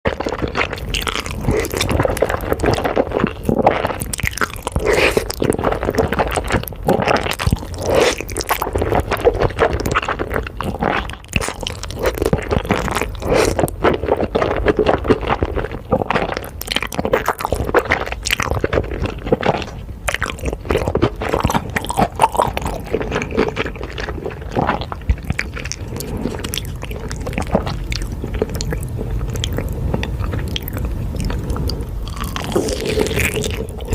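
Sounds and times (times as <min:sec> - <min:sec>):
chewing crunchy wet food: 0:00.1 - 0:33.9.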